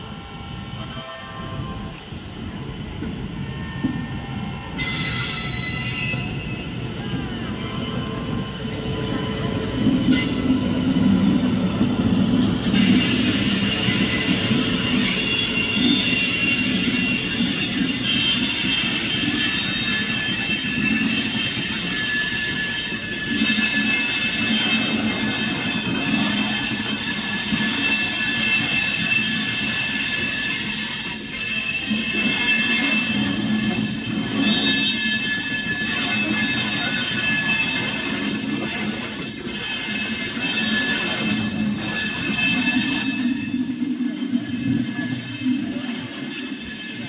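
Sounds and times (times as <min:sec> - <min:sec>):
train wheels squealing on rails: 0:00.0 - 0:47.0.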